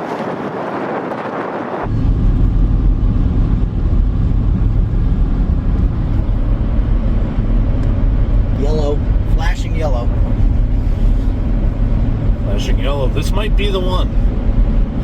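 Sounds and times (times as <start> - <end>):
car driving rumble: 0.0 - 15.0
wind rushing over microphone: 0.0 - 15.0.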